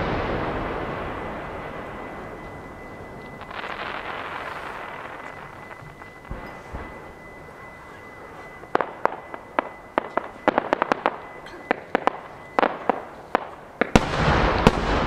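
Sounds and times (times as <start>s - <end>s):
fireworks rumble and crackle: 0.0s - 15.0s
fireworks shells bursting: 0.0s - 15.0s.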